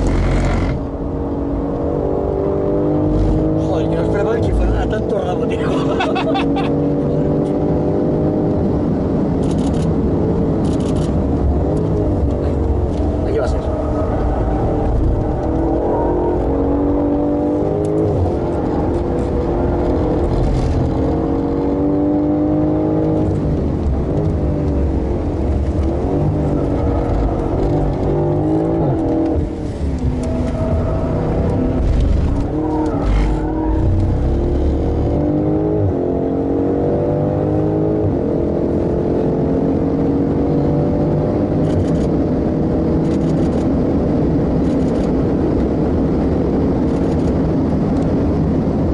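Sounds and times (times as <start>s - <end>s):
car engine revving through gears: 0.0s - 48.8s.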